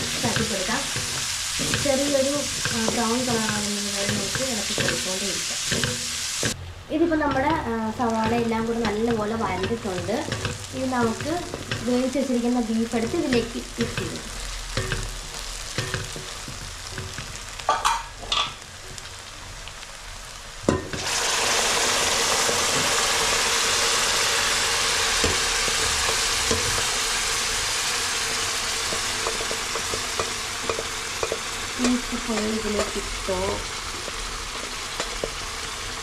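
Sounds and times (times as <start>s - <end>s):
loud sizzle: 0.0s - 36.0s
onions frying in oil: 0.0s - 36.0s.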